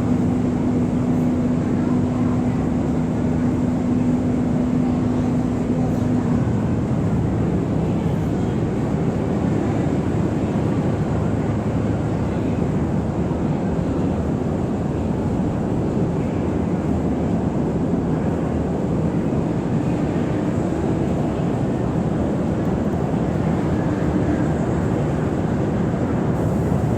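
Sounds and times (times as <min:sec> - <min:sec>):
ferry engine droning: 0:00.0 - 0:26.9.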